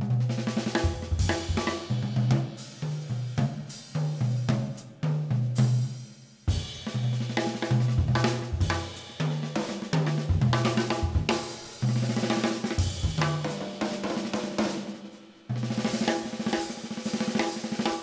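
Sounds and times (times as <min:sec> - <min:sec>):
drum kit played hard: 0:00.0 - 0:18.0.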